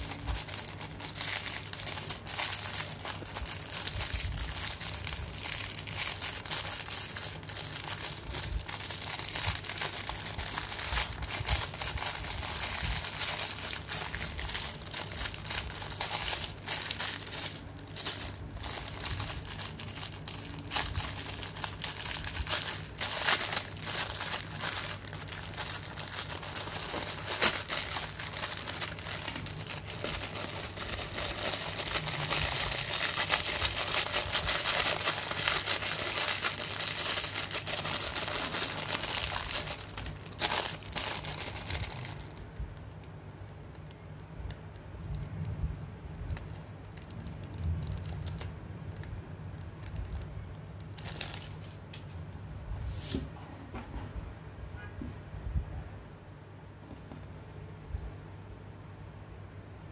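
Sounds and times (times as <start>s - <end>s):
plastic bag crinkling: 0.0s - 45.2s, 46.1s - 52.1s.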